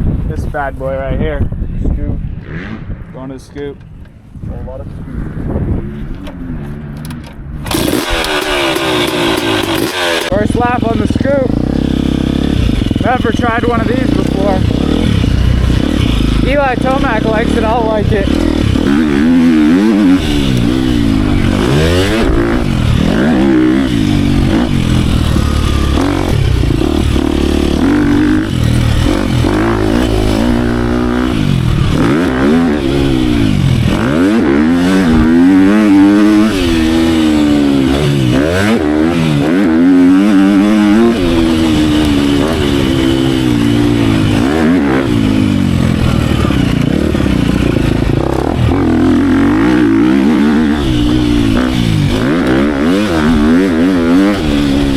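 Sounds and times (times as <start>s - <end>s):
wind noise on microphone: 0.0s - 54.9s
motocross bike engine revving: 2.2s - 3.3s, 5.0s - 54.9s.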